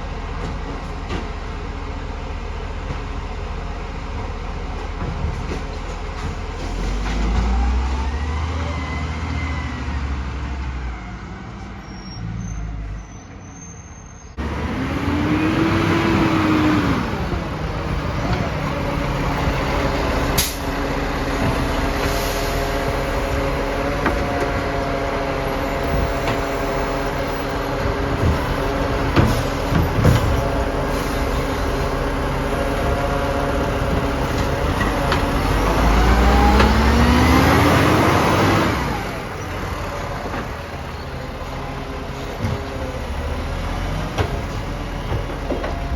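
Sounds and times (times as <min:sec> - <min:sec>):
garbage truck engine and hydraulics: 0:00.0 - 0:45.9.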